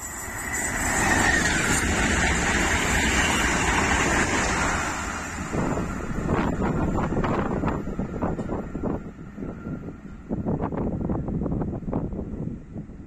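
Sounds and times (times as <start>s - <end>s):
train passing at speed: 0.0s - 13.0s
wind gusts on microphone: 0.5s - 13.0s.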